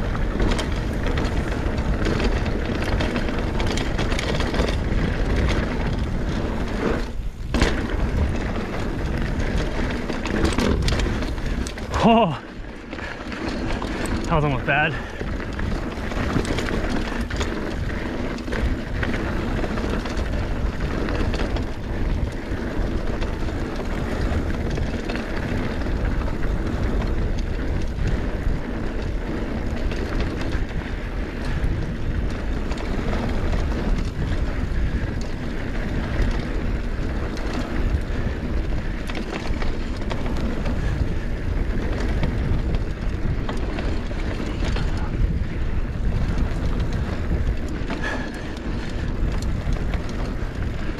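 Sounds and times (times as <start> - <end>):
bike rattling over bumps: 0.0 - 50.9
bike tyres on dirt: 0.0 - 50.9
wind buffeting microphone: 0.0 - 50.9.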